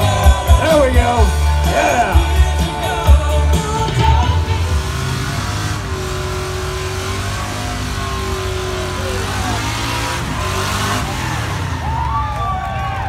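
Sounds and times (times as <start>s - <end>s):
car engine at high revs: 0.0s - 12.7s.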